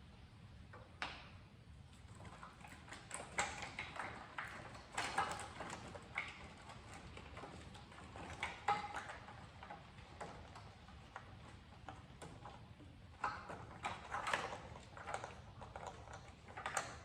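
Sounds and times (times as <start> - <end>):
tools and car parts clicking: 2.3 - 17.0.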